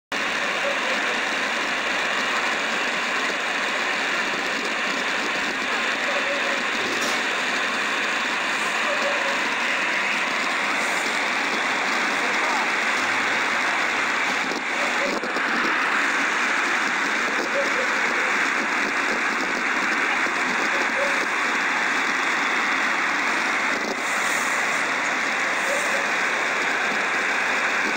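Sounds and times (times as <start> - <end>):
waterfall roaring: 0.1 - 27.9.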